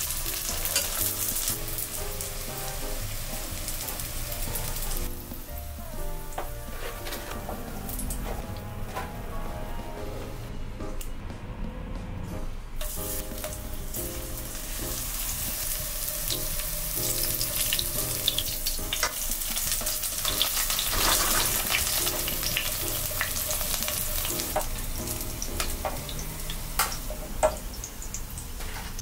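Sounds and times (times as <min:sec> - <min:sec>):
food sizzling in oil: 0:00.0 - 0:08.3, 0:12.8 - 0:29.0.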